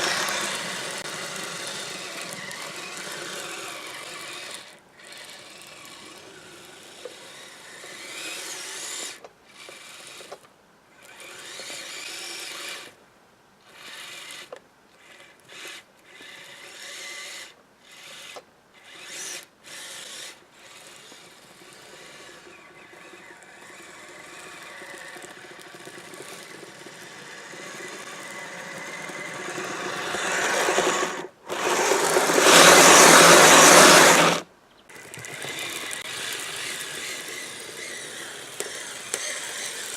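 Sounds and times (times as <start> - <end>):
electric motor whine: 0.0 - 10.4, 15.6 - 39.9.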